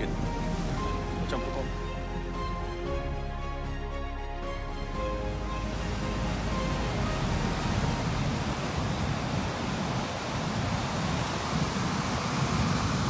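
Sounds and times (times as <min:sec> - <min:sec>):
ocean surf breaking: 0:00.0 - 0:03.1, 0:04.8 - 0:13.0.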